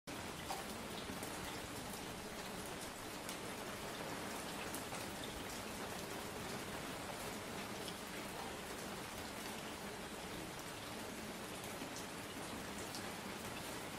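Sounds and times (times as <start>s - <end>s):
steady rain: 0.1s - 13.9s.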